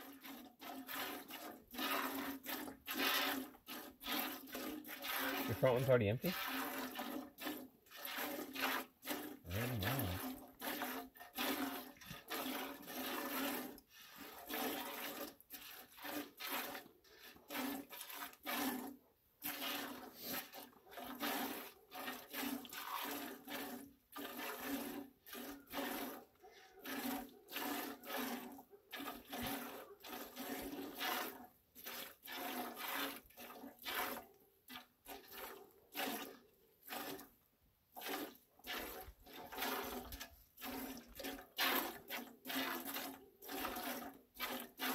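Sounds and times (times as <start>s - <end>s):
milk squirting into metal pot: 0.0s - 44.9s.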